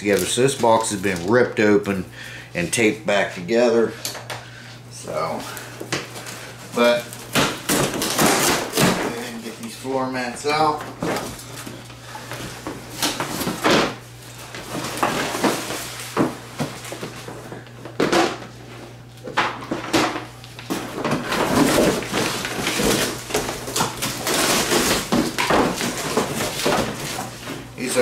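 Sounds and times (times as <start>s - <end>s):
cardboard and plastic rustling: 5.3s - 28.0s.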